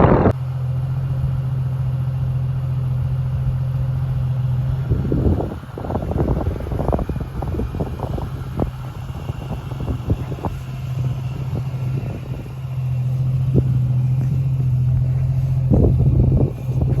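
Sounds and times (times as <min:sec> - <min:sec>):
engine running low hum: 0:00.0 - 0:17.0.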